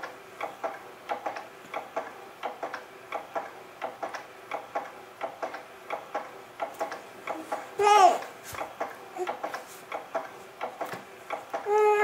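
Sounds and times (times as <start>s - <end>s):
swing mechanism ticking: 0.0s - 12.0s.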